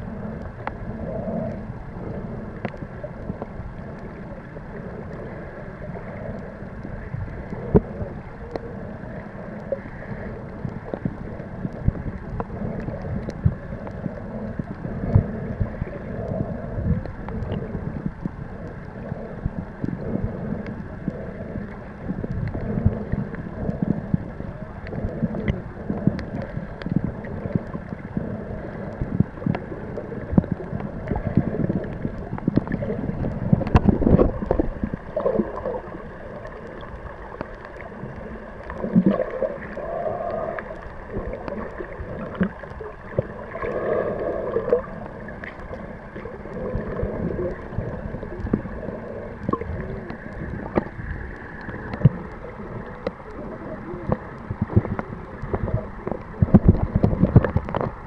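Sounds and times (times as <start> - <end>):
small underwater clicks and knocks: 0.0 - 58.0
underwater water noise: 0.0 - 58.0.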